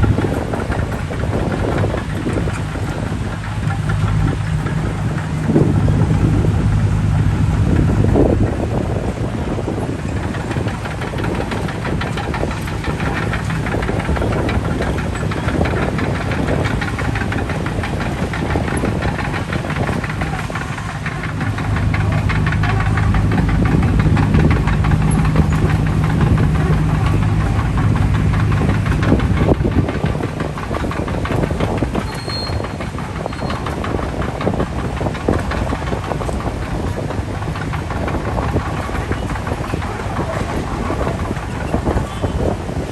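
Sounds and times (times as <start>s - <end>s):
heavy diesel engines running: 0.0s - 42.9s
metallic clatter: 0.0s - 42.9s.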